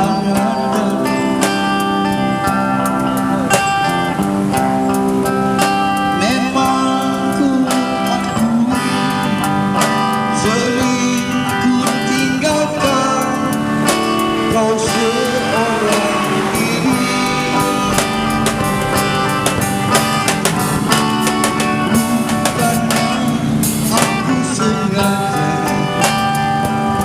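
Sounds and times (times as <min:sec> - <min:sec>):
live band with guitars: 0:00.0 - 0:27.0.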